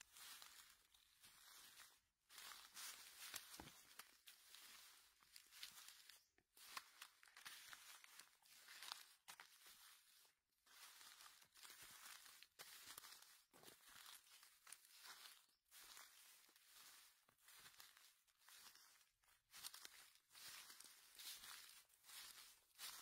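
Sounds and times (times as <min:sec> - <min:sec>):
dry leaves crackling underfoot: 0:00.0 - 0:23.0.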